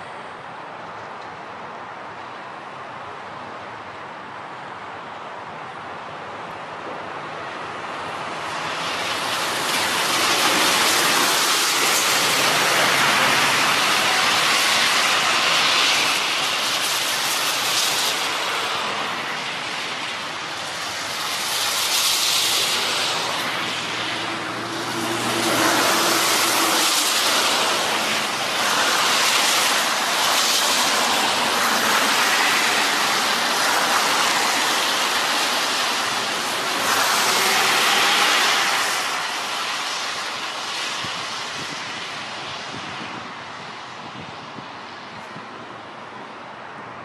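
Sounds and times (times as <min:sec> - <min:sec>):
tyres hissing on wet road: 0:00.0 - 0:47.0.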